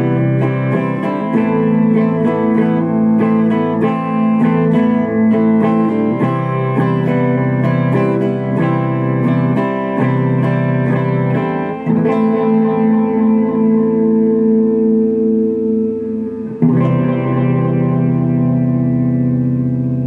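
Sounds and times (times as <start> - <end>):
electric bass guitar through effects: 0.0 - 20.0.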